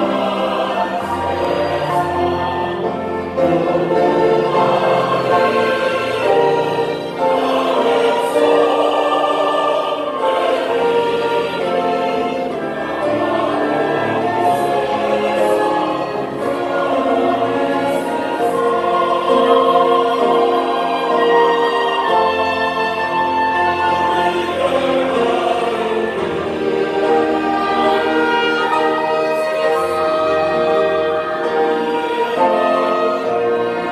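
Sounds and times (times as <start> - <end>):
choir singing a hymn: 0.0 - 33.9
violins: 0.0 - 33.9.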